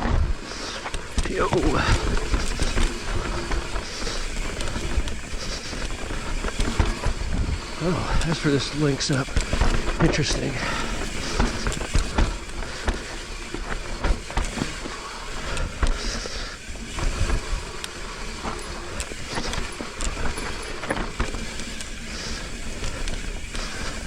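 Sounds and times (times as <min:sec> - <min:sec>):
bike knocking and rattling: 0:00.0 - 0:24.0
bike tyres rolling on dirt: 0:00.0 - 0:24.0.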